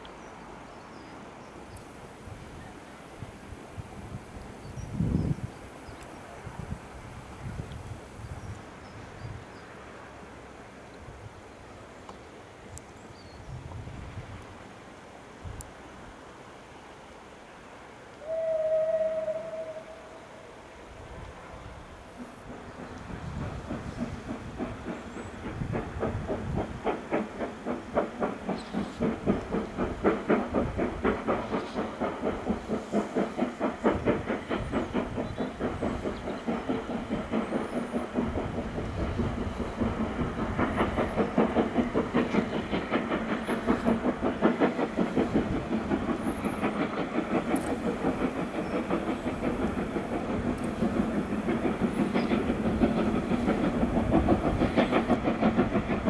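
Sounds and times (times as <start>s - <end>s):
steam locomotive chimney exhaust beating: 0.0s - 56.0s.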